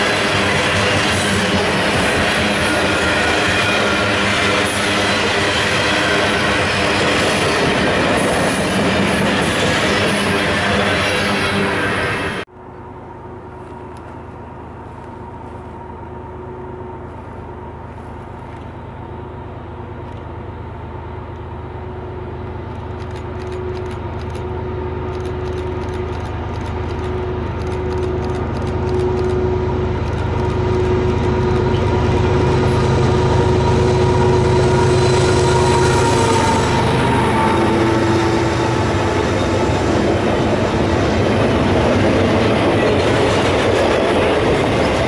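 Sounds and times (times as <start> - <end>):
diesel locomotive approaching: 0.0 - 45.0.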